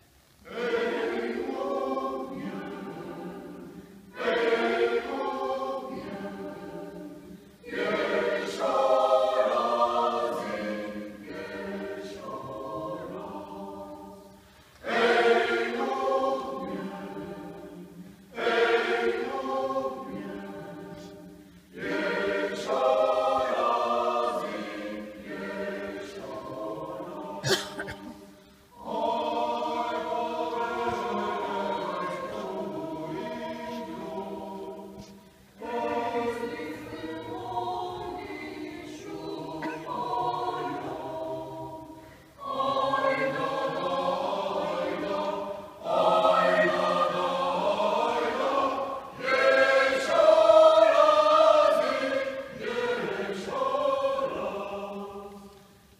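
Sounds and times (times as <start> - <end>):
mixed choir singing unaccompanied: 0.3 - 55.9.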